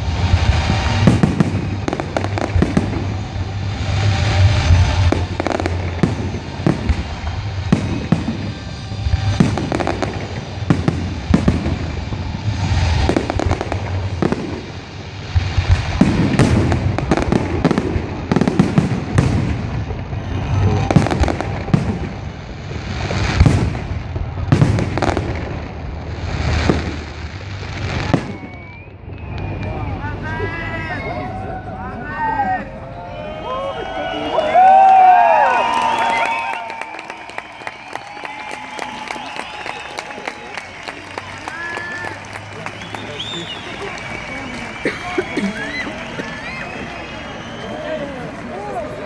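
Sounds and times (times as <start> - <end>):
fireworks bangs: 0.0 - 31.2, 33.7 - 49.0
fireworks rumble: 0.0 - 49.0.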